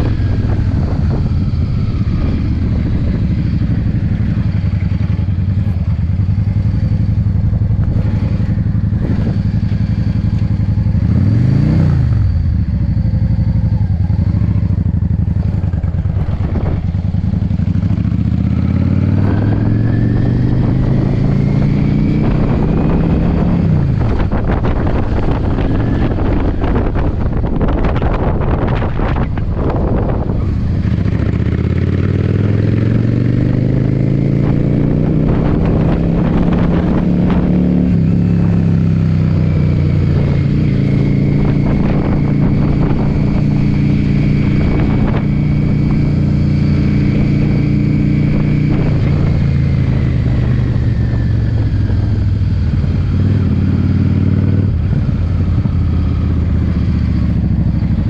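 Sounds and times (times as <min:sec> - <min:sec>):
motorcycle engine accelerating: 0:00.0 - 0:58.0
wind buffeting microphone: 0:00.0 - 0:58.0.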